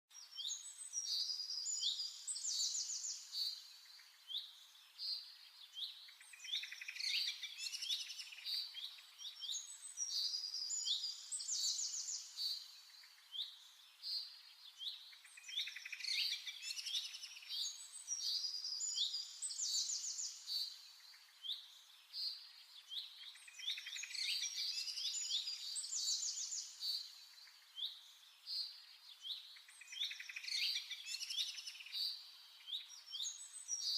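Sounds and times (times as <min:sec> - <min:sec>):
birds chirping and trilling: 0:00.1 - 0:33.9.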